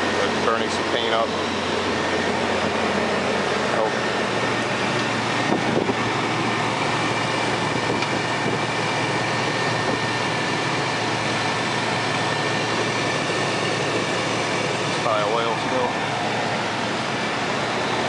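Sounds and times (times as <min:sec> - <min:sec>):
car engine idling: 0:00.0 - 0:18.0
thin steady whine: 0:00.0 - 0:18.0.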